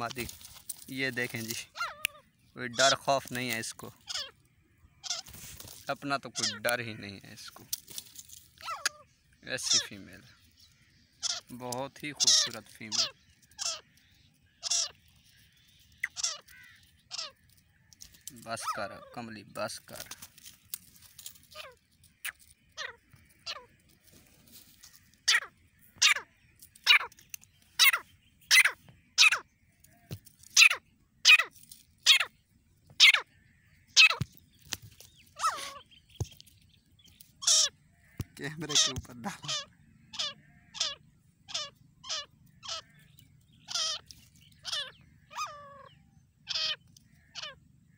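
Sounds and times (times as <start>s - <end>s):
francolin calling: 0.0s - 7.8s, 8.4s - 47.9s.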